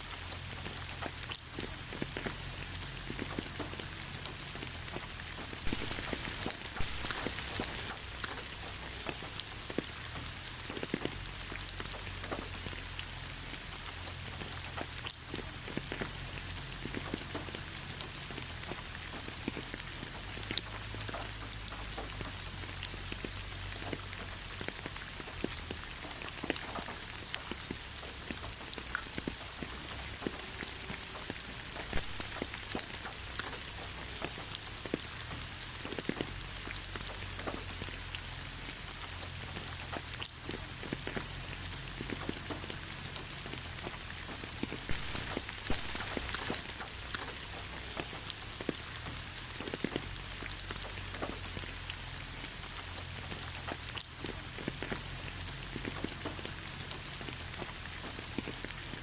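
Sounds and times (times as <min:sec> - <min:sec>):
rain hissing: 0:00.0 - 0:59.0
raindrops ticking: 0:00.0 - 0:59.0.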